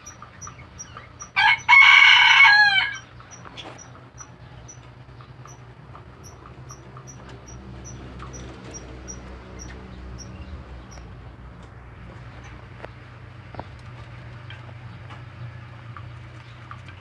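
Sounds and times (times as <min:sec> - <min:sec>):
rabbits chewing vegetables: 0:00.0 - 0:17.0
steady low hum: 0:00.0 - 0:17.0.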